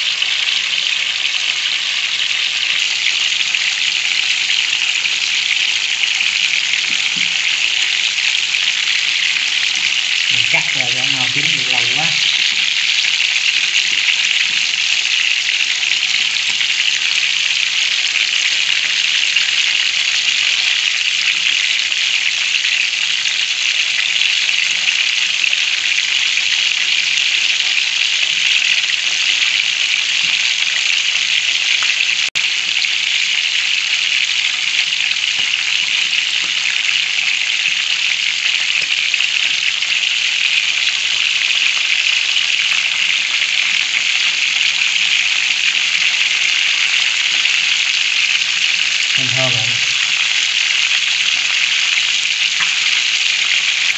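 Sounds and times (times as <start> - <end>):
deep-frying sizzle in hot oil: 0.0 - 53.9.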